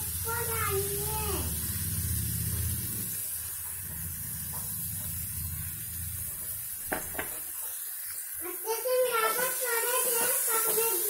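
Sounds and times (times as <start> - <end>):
curry cooking with rumble and hiss: 0.0 - 11.0.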